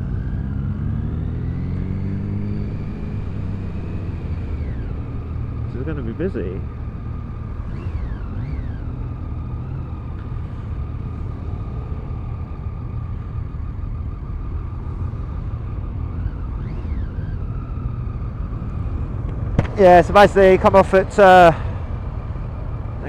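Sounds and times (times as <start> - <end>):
motorcycle engine and wind rumble: 0.0 - 23.0
motorcycle engine revving: 0.0 - 23.0.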